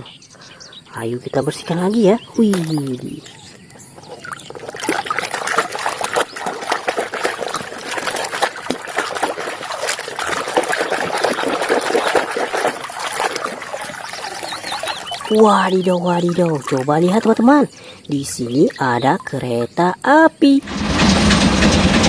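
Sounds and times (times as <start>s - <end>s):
water running and splashing: 1.0s - 19.8s.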